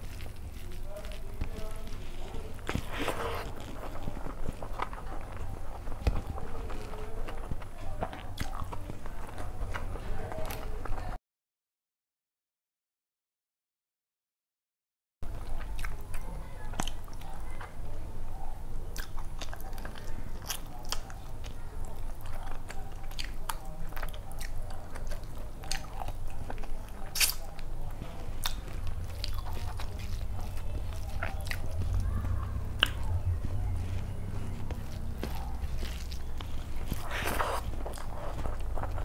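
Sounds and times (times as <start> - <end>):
chewing and mouth-smacking: 0.0 - 11.1, 15.2 - 39.0.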